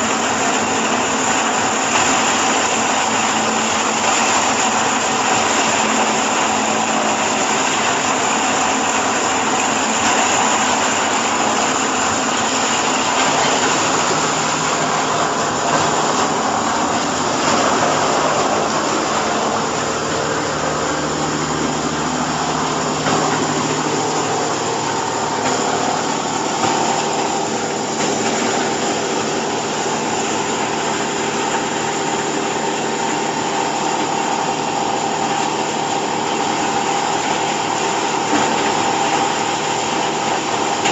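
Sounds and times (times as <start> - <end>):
hydraulic press machine running: 0.0 - 40.9.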